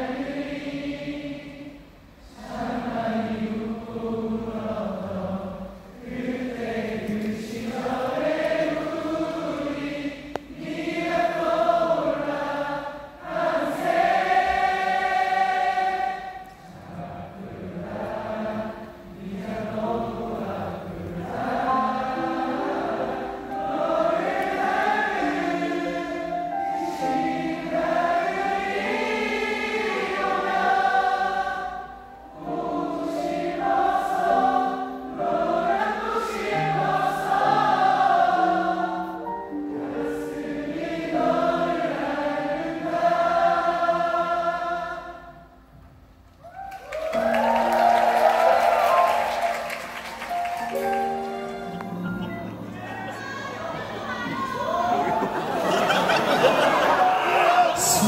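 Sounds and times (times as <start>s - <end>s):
crowd singing a slow ballad: 0.0s - 45.7s, 51.8s - 58.0s.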